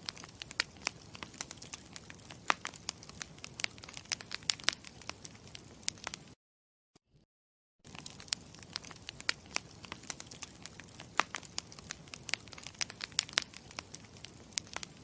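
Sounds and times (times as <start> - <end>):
campfire crackling: 0.0 - 6.4, 7.8 - 15.0.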